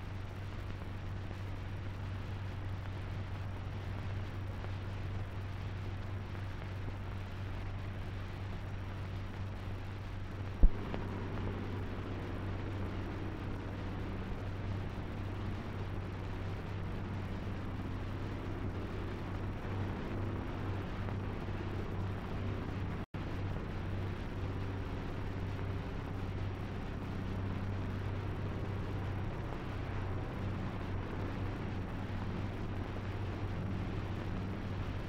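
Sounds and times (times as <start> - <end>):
film soundtrack hiss and hum: 0.0 - 35.0.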